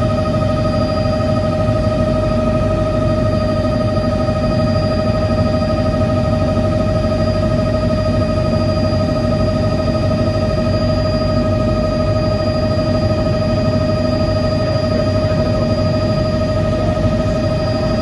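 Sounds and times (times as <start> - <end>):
helicopter engine and rotor noise: 0.0 - 18.0.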